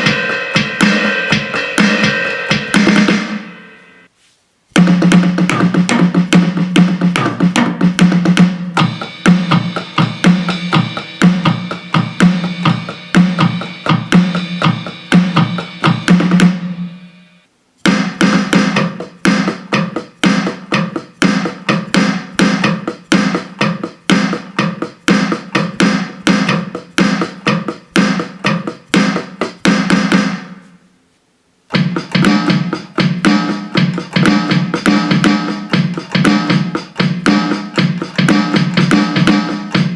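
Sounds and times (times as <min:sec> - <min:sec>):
electronic drum kit patterns: 0:00.0 - 0:04.1, 0:04.7 - 0:30.9, 0:31.7 - 0:39.9.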